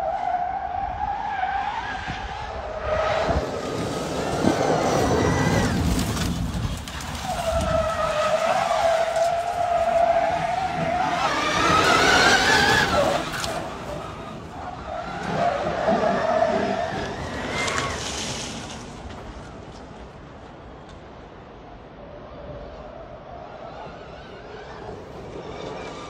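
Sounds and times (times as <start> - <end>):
tyre and road noise: 0.0 - 26.0.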